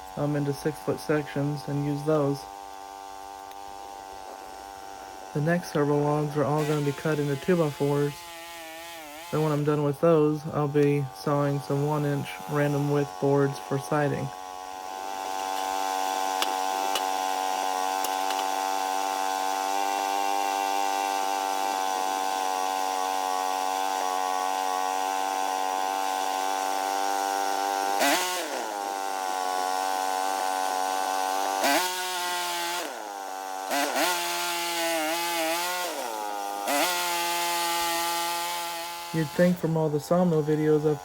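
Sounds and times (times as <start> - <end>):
sawmill engine running: 0.0 - 41.0.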